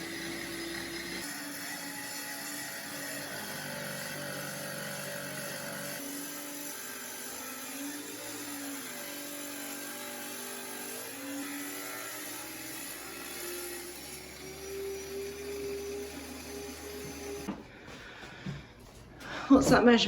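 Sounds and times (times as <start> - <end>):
electric tile saw motor whine: 0.0 - 17.5.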